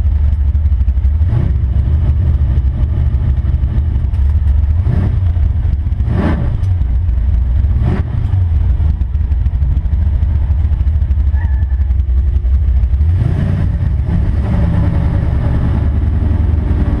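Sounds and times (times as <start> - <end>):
car engine and exhaust: 0.0 - 17.0.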